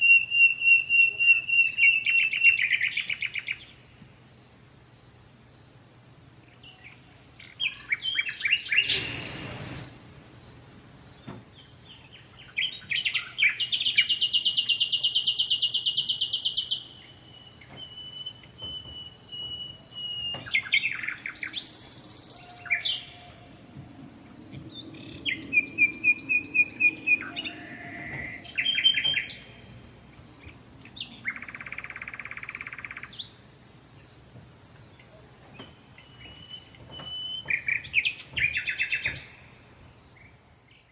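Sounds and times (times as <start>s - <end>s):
songbirds singing: 0.0s - 4.0s, 6.3s - 9.9s, 11.0s - 40.9s.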